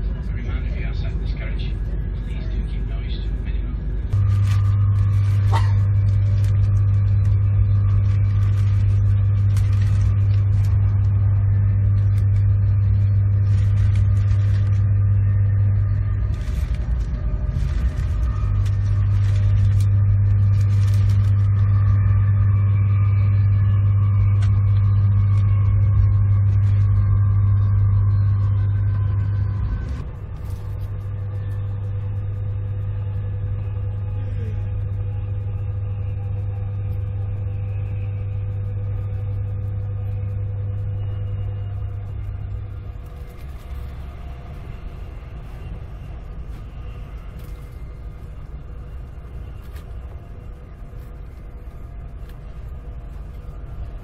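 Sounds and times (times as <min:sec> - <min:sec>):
train cabin drone: 0:00.0 - 0:54.0.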